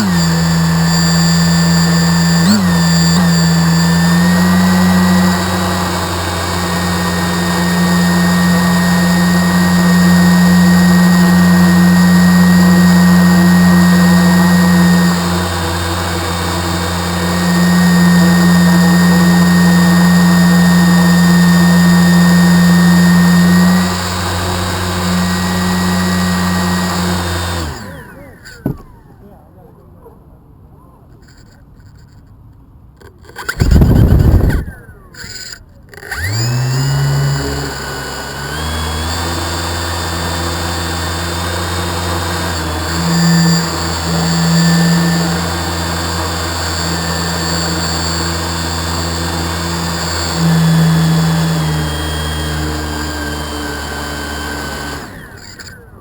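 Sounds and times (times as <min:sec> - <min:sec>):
motor humming: 0:00.0 - 0:29.4, 0:33.0 - 0:56.0.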